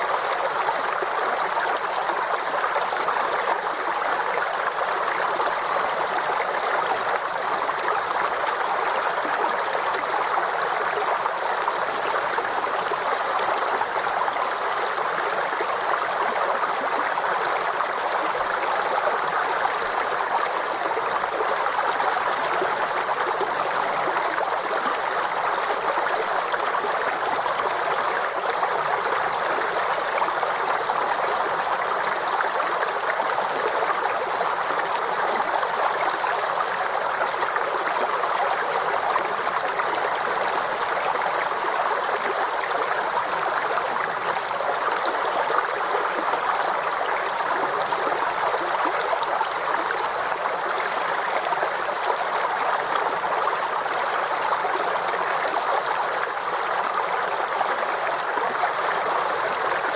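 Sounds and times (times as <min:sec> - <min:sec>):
stream running over stones: 0:00.0 - 0:59.9.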